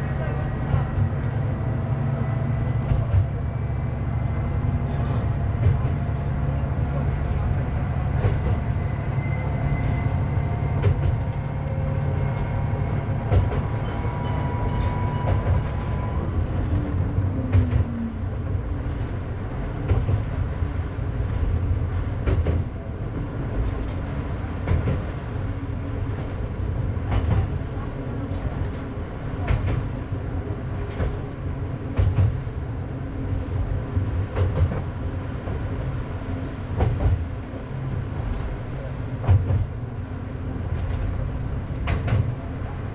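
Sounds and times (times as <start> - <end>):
railcar engine rumble: 0.0 - 42.9
rail-joint clicks: 2.5 - 3.8, 4.6 - 19.0, 19.7 - 42.9.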